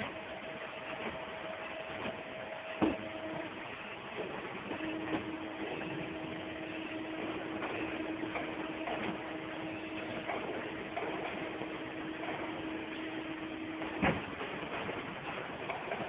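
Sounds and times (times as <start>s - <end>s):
forming press humming: 0.0s - 16.0s
machine-shop noise: 0.0s - 16.0s.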